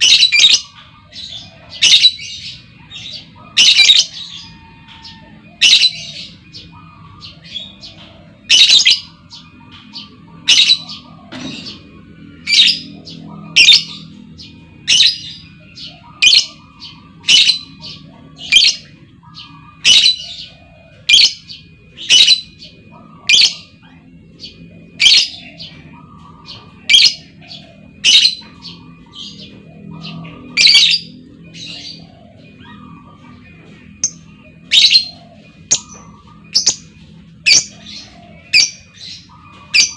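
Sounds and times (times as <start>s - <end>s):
soft chirping chatter: 0.0s - 39.9s.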